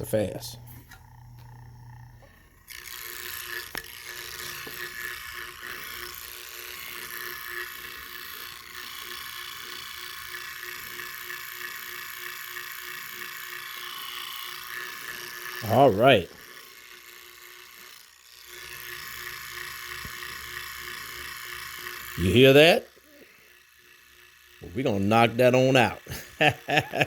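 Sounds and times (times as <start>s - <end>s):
motor humming: 0.0s - 27.0s
rough mechanical whir: 0.0s - 27.0s.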